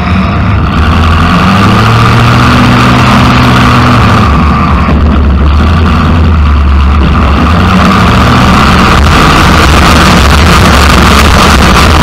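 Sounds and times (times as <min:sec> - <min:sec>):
car engine rumbling unmuffled: 0:00.0 - 0:12.0.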